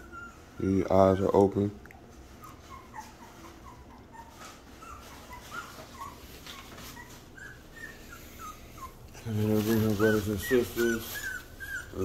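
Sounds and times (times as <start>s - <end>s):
puppy whimpering: 0.0s - 12.0s.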